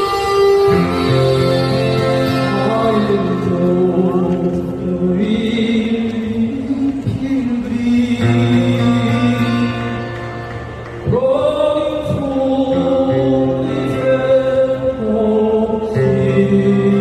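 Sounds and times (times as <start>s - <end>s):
acoustic guitar: 0.0s - 17.0s.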